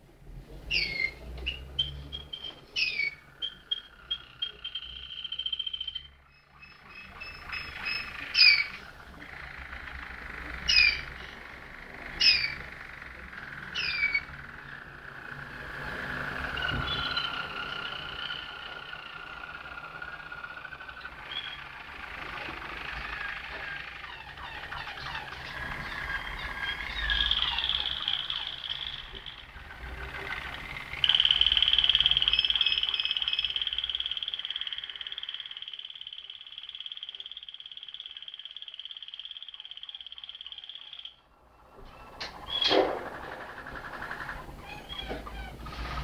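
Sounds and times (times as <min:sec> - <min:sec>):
canaries singing trills: 0:00.0 - 0:46.0.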